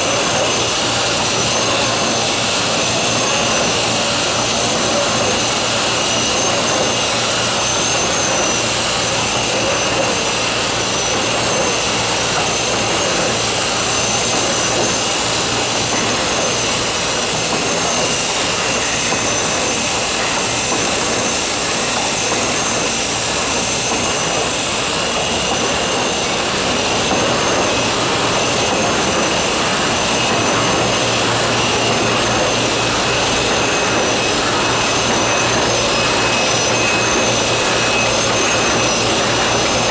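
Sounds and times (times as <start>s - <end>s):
high wavering whine: 0.0s - 39.9s
printing press mechanical whir: 0.0s - 39.9s.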